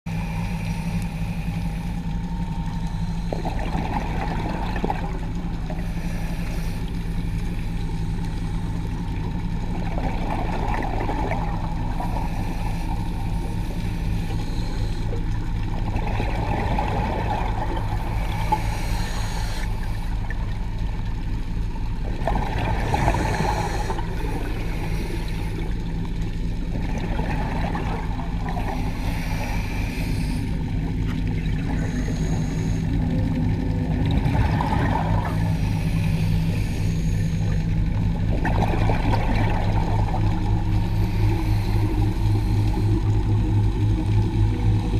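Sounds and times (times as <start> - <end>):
scuba regulator exhaust bubbles: 0.1 - 44.9
steady low underwater hum: 0.1 - 44.9.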